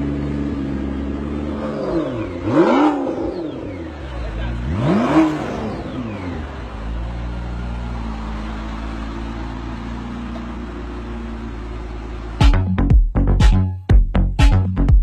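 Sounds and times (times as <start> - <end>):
car engine revving and idling: 0.0 - 13.4.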